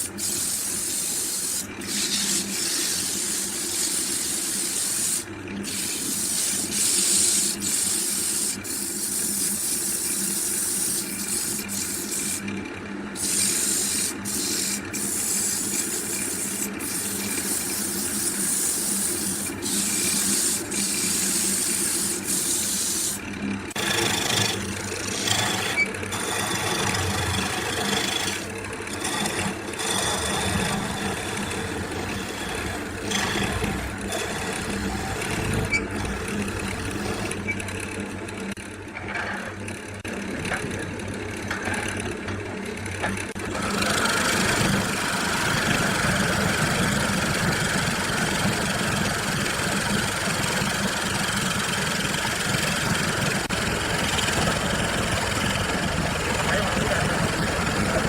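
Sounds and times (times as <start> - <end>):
workshop machinery running: 0.0 - 58.0.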